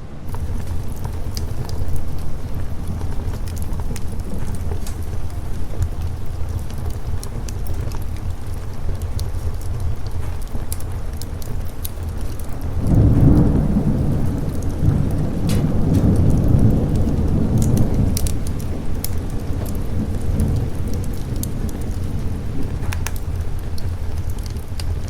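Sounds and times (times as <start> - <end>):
steady rain: 0.0 - 25.0
thunder rumbling: 0.0 - 25.0
sharp crackles popping: 0.2 - 25.0.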